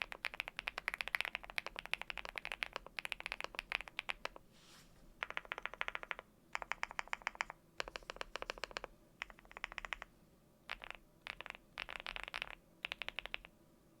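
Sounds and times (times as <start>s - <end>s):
fast typing on mechanical keyboard: 0.0s - 4.4s, 5.2s - 10.1s, 10.7s - 13.5s.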